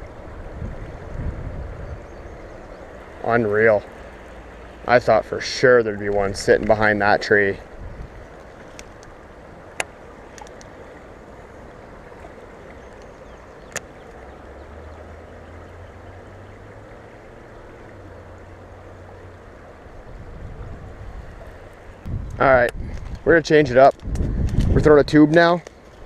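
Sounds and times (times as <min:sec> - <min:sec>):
river rushing: 0:00.0 - 0:22.7.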